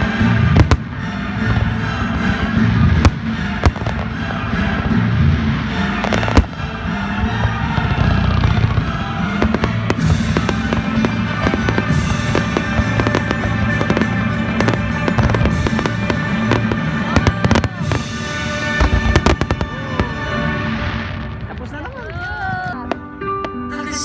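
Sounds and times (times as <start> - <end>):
fireworks bangs and crackles: 0.0 - 23.2
loud background music: 0.0 - 24.0.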